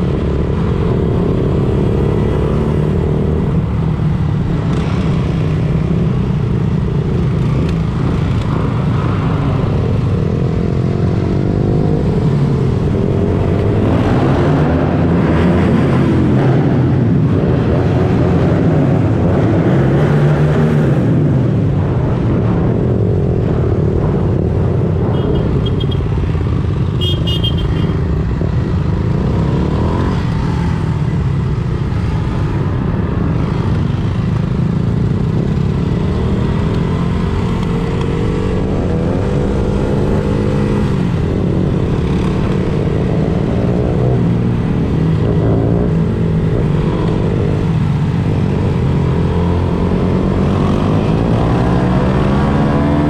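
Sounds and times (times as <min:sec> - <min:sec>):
vehicle engines revving: 0:00.0 - 0:53.0.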